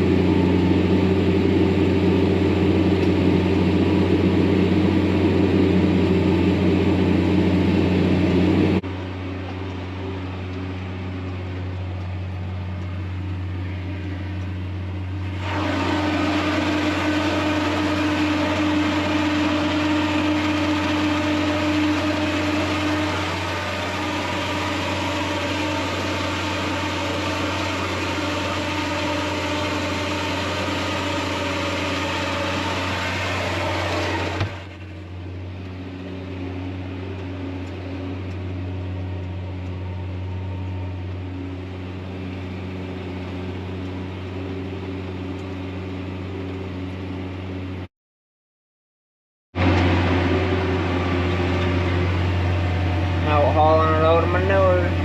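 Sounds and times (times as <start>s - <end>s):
farm vehicle engine droning: 0.0s - 47.9s, 49.6s - 55.0s.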